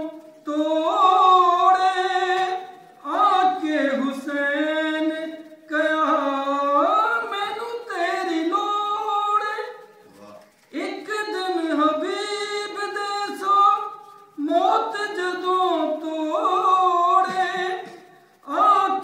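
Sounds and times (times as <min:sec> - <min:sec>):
man singing unaccompanied: 0:00.0 - 0:10.0, 0:10.7 - 0:19.0.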